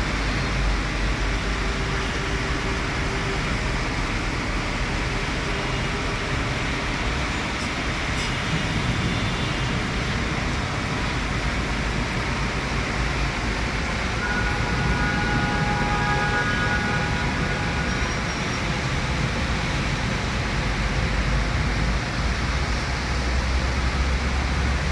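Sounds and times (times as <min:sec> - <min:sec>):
heavy rain: 0:00.0 - 0:24.9
road traffic: 0:00.0 - 0:24.9.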